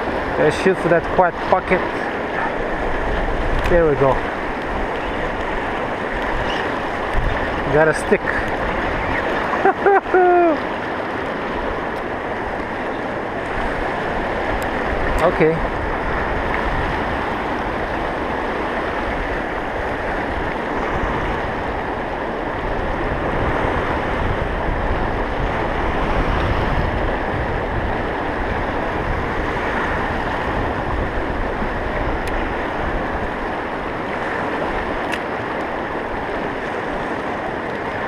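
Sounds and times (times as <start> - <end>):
river rushing over rocks: 0.0 - 38.0.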